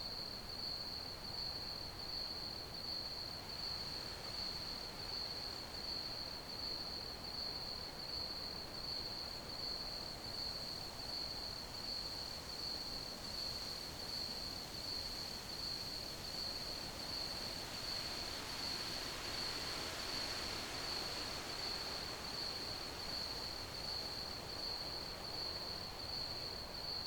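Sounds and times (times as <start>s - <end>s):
soft steady hiss: 0.0s - 27.0s.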